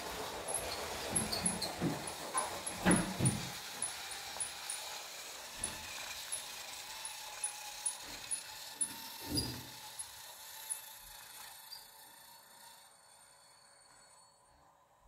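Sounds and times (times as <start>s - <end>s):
toy train mechanical ticking: 0.0s - 14.8s.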